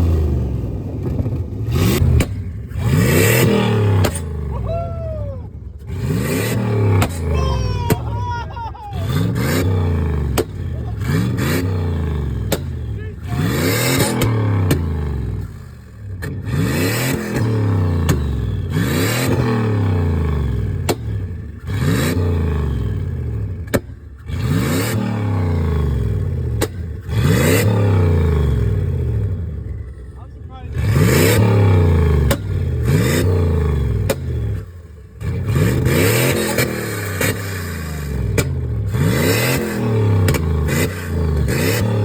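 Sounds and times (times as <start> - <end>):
pickup engine revving: 0.0 - 42.0.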